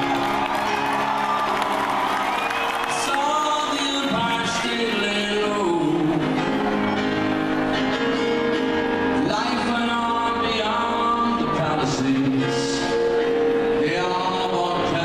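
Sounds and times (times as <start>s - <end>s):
live band music over sound system: 0.0s - 15.0s.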